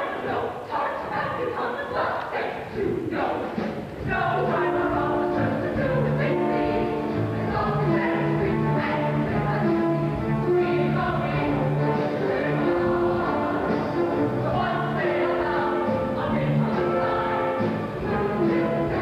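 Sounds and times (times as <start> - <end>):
ensemble chorus singing: 0.0 - 19.0.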